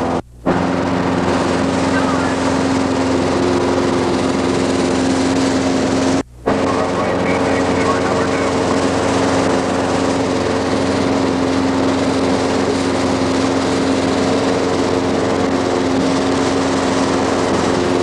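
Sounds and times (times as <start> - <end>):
airplane engine droning in cabin: 0.0 - 18.0.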